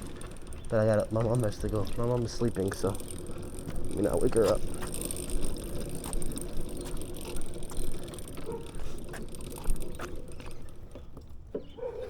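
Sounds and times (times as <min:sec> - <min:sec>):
small engine idling unevenly: 0:00.0 - 0:11.8.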